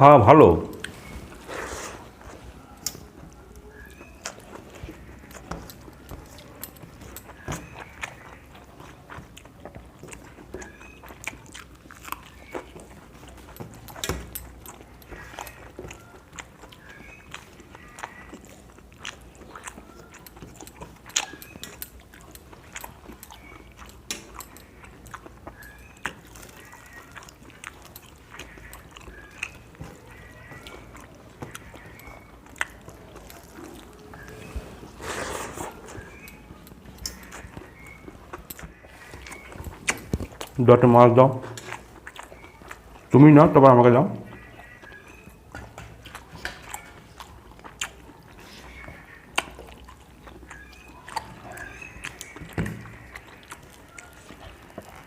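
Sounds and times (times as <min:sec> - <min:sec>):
chewing: 0:00.4 - 0:55.0.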